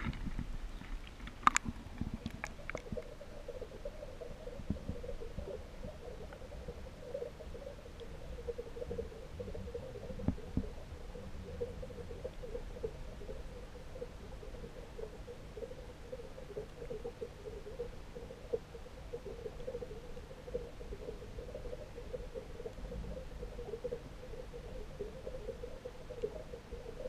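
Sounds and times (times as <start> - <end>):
underwater hum and rumble: 0.0 - 27.0.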